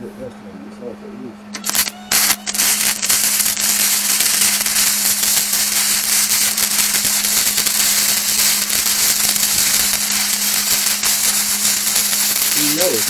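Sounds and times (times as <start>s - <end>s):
welding arc crackling and sizzling: 1.5s - 13.0s.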